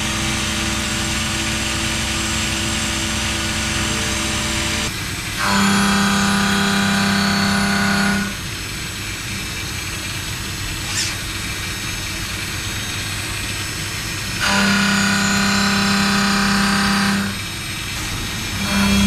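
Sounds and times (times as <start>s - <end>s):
machining hum: 0.0s - 19.0s
steady mechanical noise: 0.0s - 19.0s.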